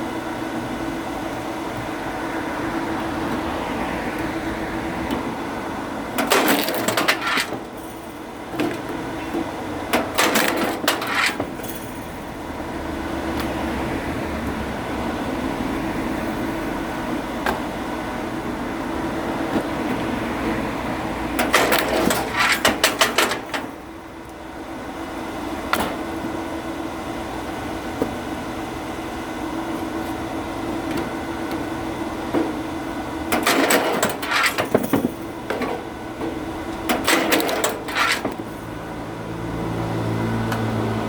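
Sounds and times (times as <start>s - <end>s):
steady mechanical hum: 0.0s - 41.0s.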